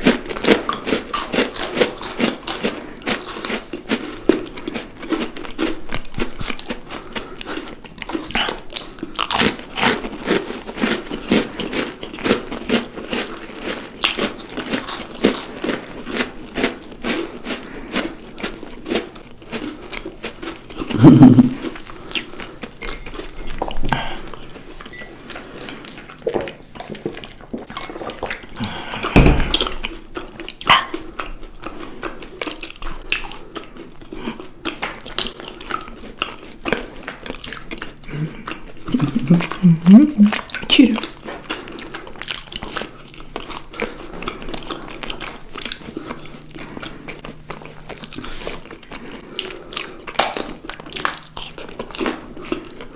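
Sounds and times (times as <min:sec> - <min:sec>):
person chewing chocolates: 0:00.0 - 0:52.9.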